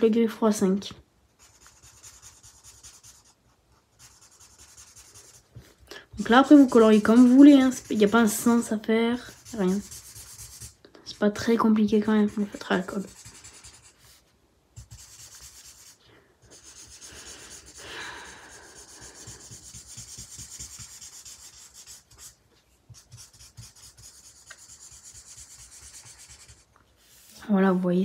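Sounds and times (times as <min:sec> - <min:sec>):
marker nib rubbing on paper: 0:01.4 - 0:05.6, 0:06.2 - 0:14.2, 0:14.8 - 0:26.7.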